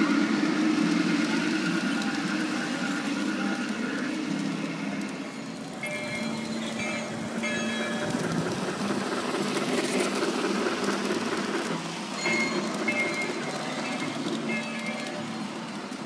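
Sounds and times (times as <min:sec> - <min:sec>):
small train running on track: 0:00.0 - 0:16.0.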